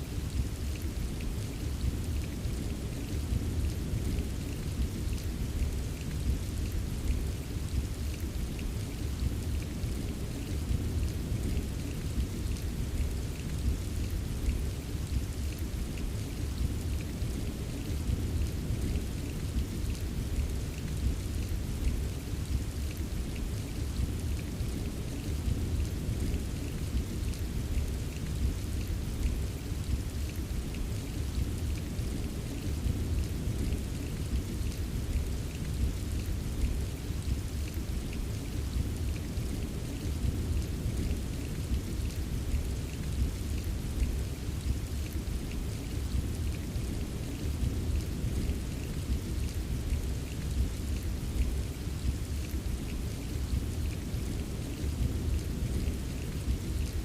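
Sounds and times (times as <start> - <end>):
raindrops ticking on a surface: 0.0 - 57.0
steady rain: 0.0 - 57.0.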